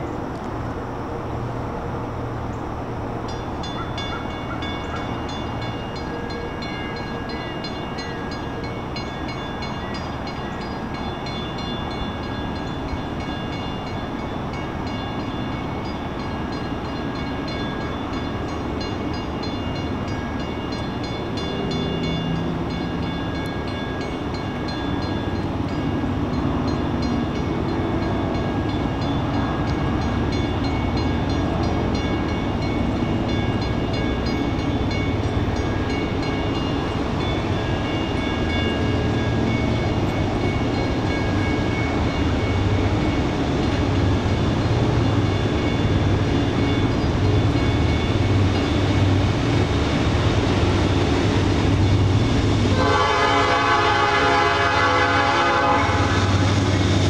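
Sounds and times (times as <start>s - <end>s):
diesel locomotives rumbling: 0.0s - 57.0s
crossing bell ringing rapidly: 3.3s - 57.0s.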